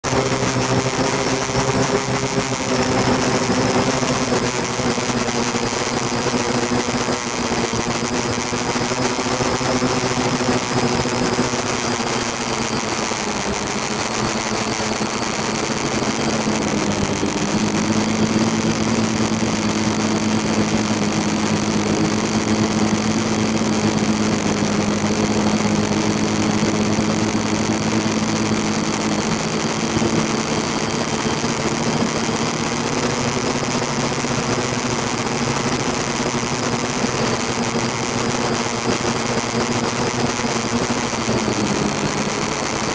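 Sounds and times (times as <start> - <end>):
drone propellers buzzing: 0.0 - 42.9.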